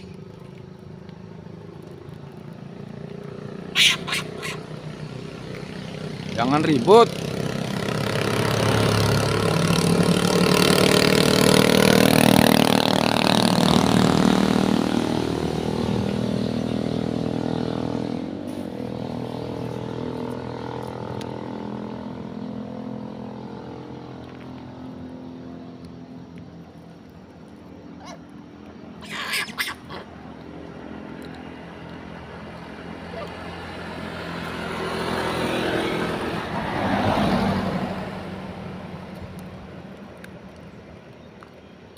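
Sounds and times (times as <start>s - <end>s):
vehicle approaching: 0.0s - 41.9s
vehicle passing on road: 0.0s - 41.9s.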